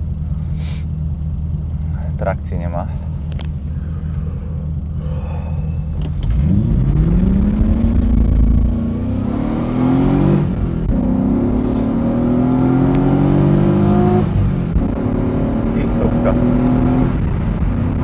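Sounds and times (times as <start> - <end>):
car engine revving: 3.1 - 18.0.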